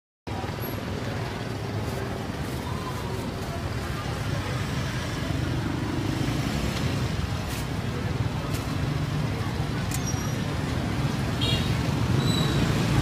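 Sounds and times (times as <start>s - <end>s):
low rumble of street traffic: 0.3s - 13.0s.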